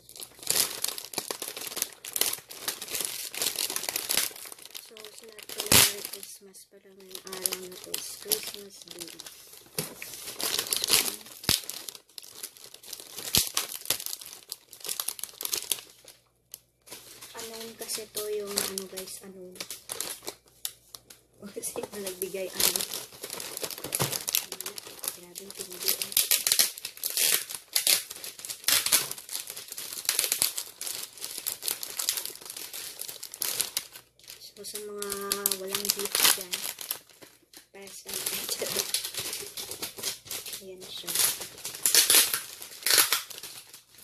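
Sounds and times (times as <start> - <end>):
plastic wrapping crinkling: 0.0 - 44.0.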